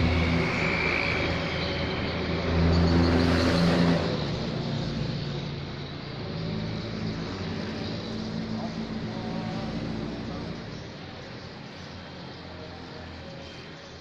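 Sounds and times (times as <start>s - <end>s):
vehicle engine humming: 0.0s - 13.9s.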